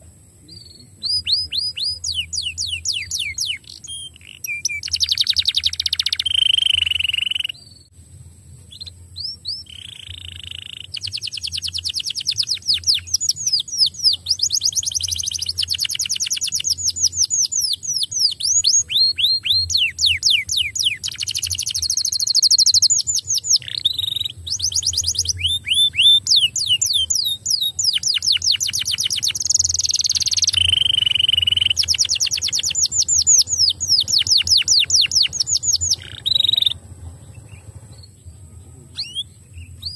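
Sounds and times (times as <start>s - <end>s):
canary singing trills: 0.0s - 8.0s, 8.6s - 39.9s.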